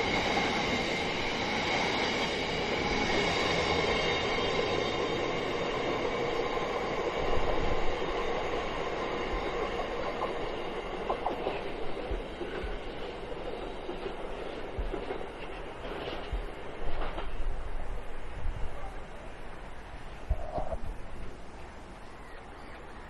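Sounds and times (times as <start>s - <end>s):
train wagons rolling on track: 0.0s - 23.0s.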